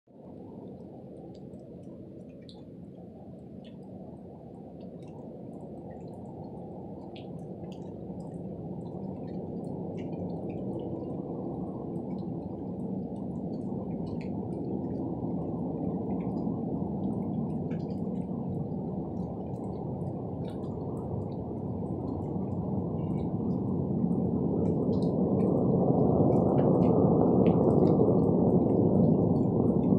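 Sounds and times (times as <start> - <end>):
low rumble from the sky: 0.1 - 29.9.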